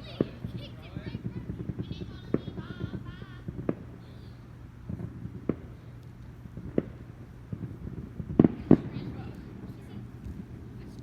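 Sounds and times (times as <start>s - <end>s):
fireworks banging: 0.0s - 11.0s
faint firework pops: 0.1s - 4.2s, 4.8s - 11.0s.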